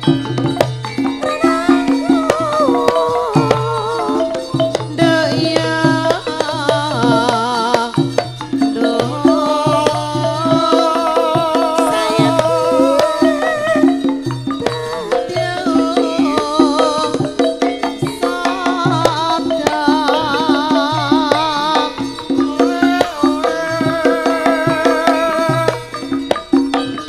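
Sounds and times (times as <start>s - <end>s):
hand drum strokes: 0.0s - 27.0s
metallophone notes: 0.0s - 27.0s
woman singing with vibrato: 1.0s - 26.3s.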